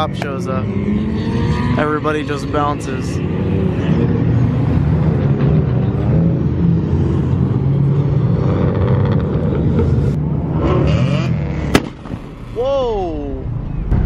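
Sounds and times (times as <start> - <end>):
car engines revving: 0.0 - 12.6.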